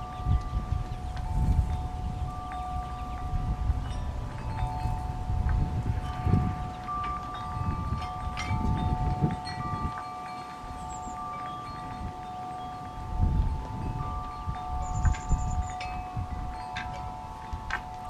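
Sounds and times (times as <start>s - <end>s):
wind chimes ringing: 0.0s - 18.0s
wind rumbling on microphone: 0.0s - 18.0s.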